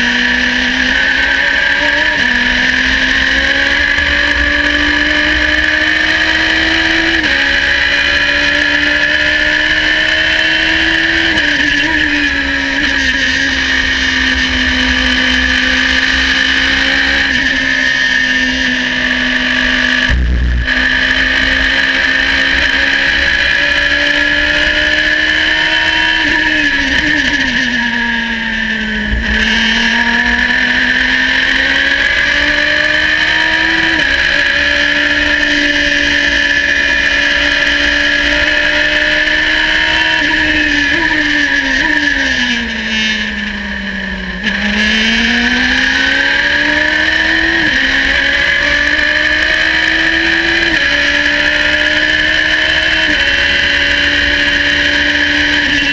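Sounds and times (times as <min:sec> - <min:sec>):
race car engine at high revs: 0:00.0 - 0:55.9.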